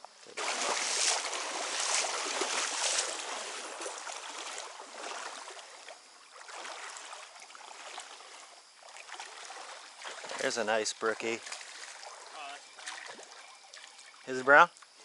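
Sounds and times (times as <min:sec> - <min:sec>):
stream water splashing and rushing: 0:00.2 - 0:14.6.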